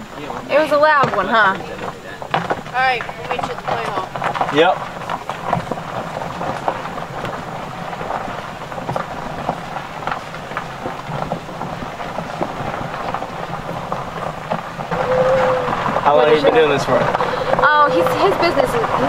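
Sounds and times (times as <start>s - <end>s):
tyres crunching on gravel: 0.0s - 19.0s.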